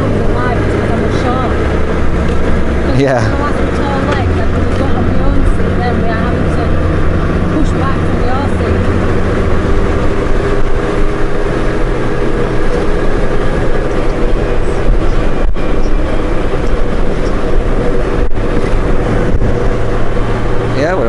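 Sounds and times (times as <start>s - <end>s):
motorcycle engine rumble: 0.0s - 21.0s
wind and road noise: 0.0s - 21.0s.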